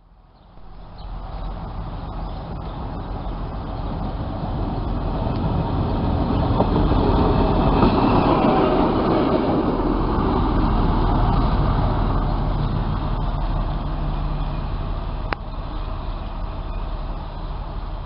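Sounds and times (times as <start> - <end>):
diesel locomotive passing: 0.0 - 18.0
distant diesel engine hum: 0.5 - 18.0.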